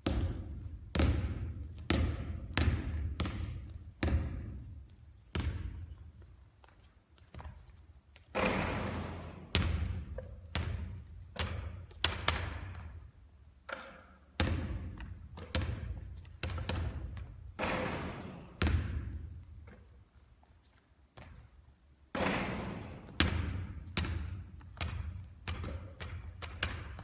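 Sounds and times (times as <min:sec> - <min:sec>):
basketball bouncing with echo: 0:00.0 - 0:06.3, 0:07.2 - 0:20.0, 0:21.2 - 0:27.0.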